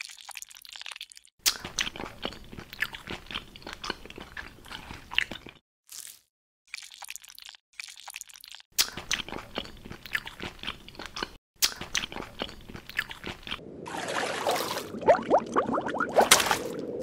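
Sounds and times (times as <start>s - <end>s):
crunching and chewing crisp food: 0.0s - 13.6s.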